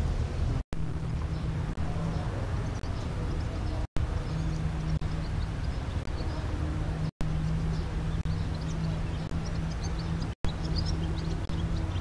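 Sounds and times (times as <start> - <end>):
ship engine drone: 0.0 - 12.0
wind rumble on microphone: 0.0 - 12.0
faint high bird chirps: 1.3 - 12.0.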